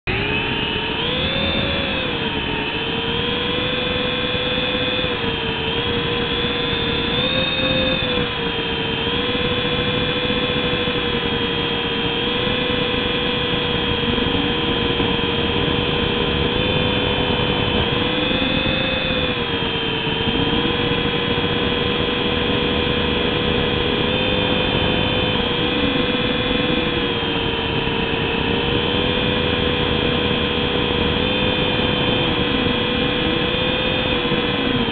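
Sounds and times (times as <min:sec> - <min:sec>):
rc helicopter rotors whining: 0:00.0 - 0:34.9.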